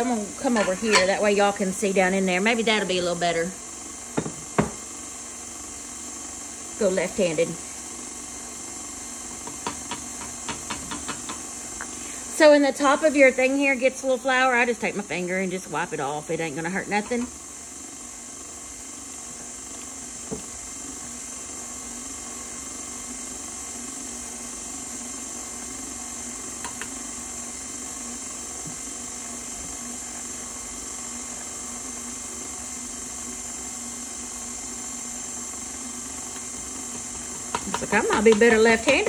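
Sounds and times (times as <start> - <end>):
stand mixer motor whine: 0.0 - 39.0.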